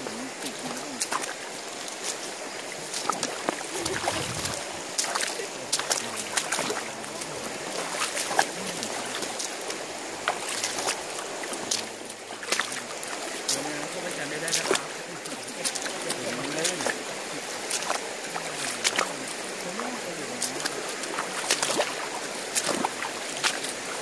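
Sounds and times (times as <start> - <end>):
footsteps splashing through stream: 0.0 - 24.0
running water rushing: 0.0 - 24.0.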